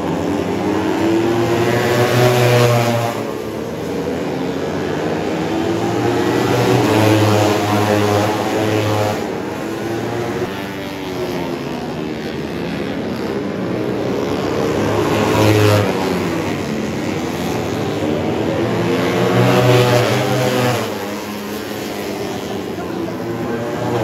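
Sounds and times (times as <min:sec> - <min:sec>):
racing motorcycles passing: 0:00.0 - 0:24.0.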